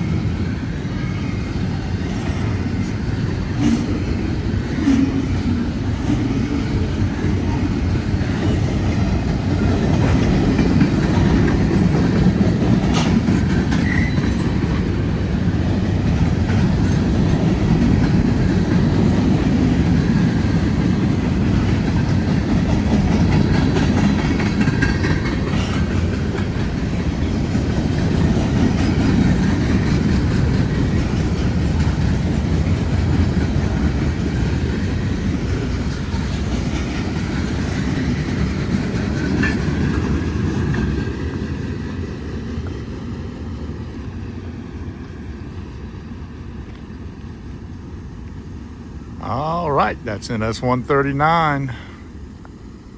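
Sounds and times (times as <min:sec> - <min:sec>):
freight train rumbling past: 0:00.0 - 0:52.9.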